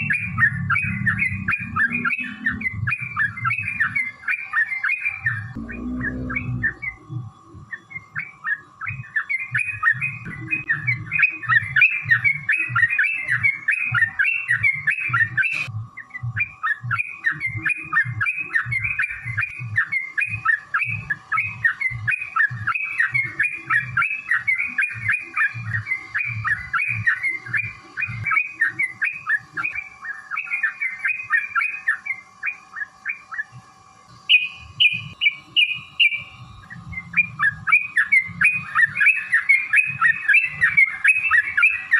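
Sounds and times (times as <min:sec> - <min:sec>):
bird chattering song: 0:00.0 - 0:41.9
higher evenly spaced bird notes: 0:00.0 - 0:41.9.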